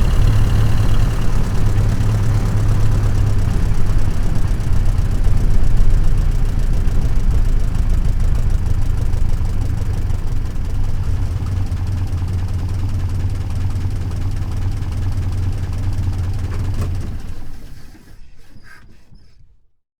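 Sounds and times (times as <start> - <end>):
car engine idling: 0.0 - 18.1.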